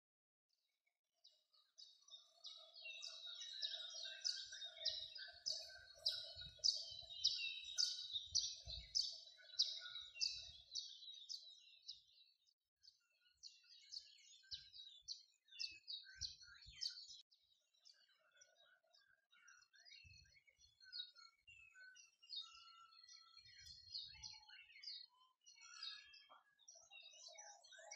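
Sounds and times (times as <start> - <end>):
small songbirds chirping: 0.5 - 27.9.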